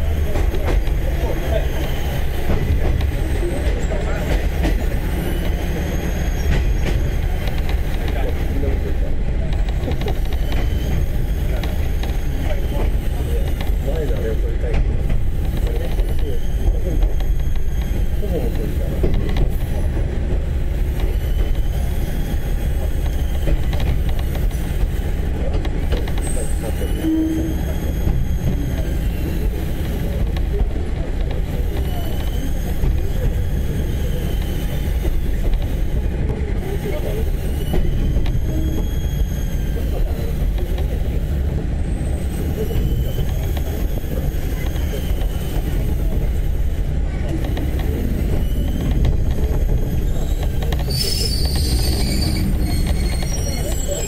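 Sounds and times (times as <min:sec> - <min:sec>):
railcar low rumble: 0:00.0 - 0:54.0.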